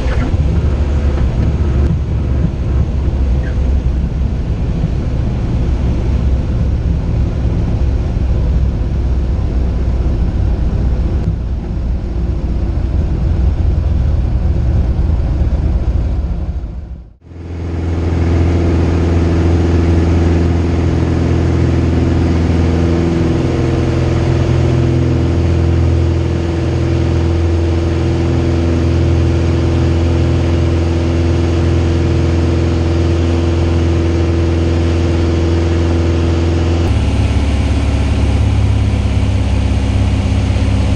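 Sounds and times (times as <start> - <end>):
light aircraft engine drone: 0.0 - 40.9.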